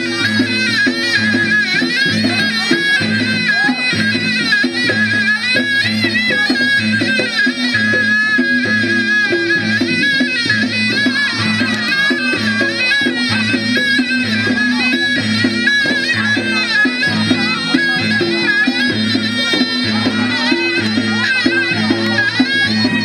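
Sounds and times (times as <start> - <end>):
hand drums beating: 0.0 - 23.0
reedy wind instrument melody: 0.0 - 23.0.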